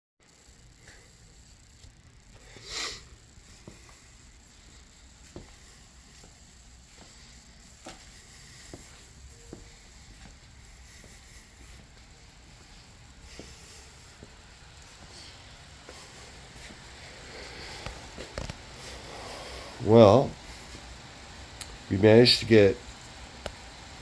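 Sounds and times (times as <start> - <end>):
computer fans humming: 0.2 - 24.0.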